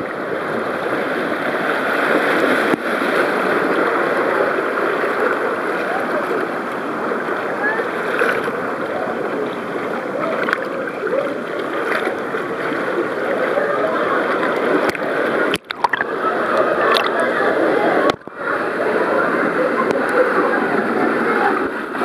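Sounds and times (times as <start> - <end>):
churning water splashing: 0.0 - 22.0.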